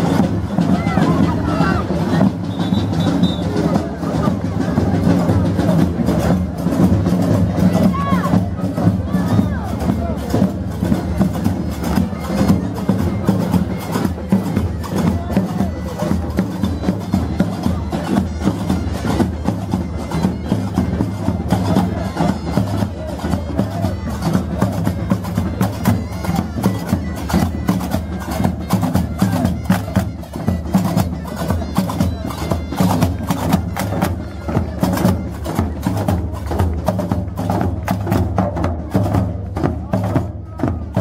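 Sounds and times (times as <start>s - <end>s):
frame drums and hand percussion: 0.0s - 41.0s.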